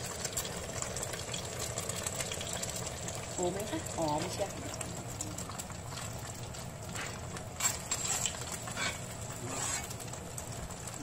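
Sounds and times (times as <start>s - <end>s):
crackles and pops: 0.0s - 11.0s
eggs sizzling in oil: 0.0s - 11.0s.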